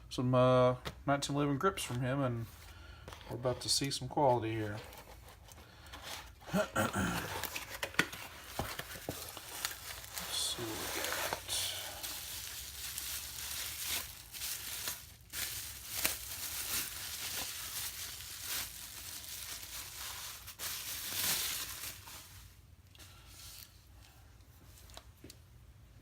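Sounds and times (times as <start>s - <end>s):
packaging rustling and crinkling: 2.5s - 25.4s.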